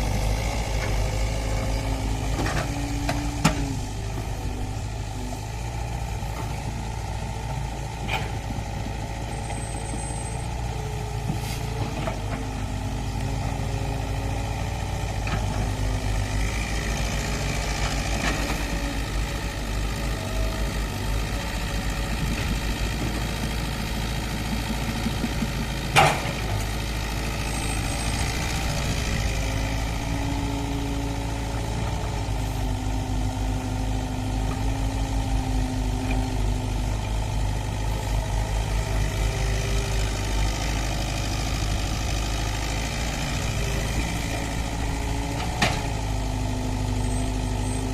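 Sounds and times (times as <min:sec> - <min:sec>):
excavator diesel engines: 0:00.0 - 0:47.9.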